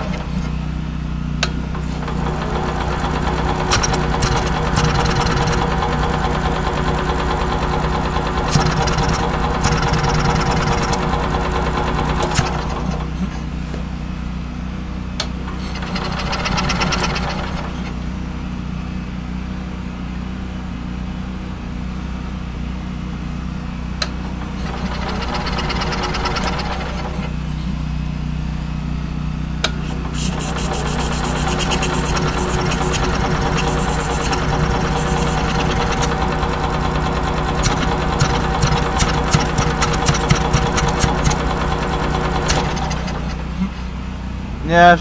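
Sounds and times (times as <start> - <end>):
generator engine running rough: 0.0 - 45.0.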